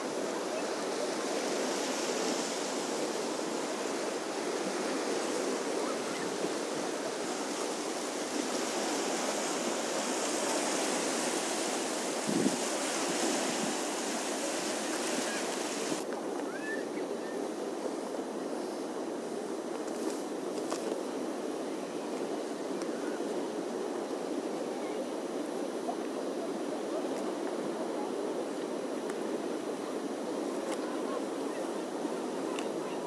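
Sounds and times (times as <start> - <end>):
waves on rocky shore: 0.0 - 33.0.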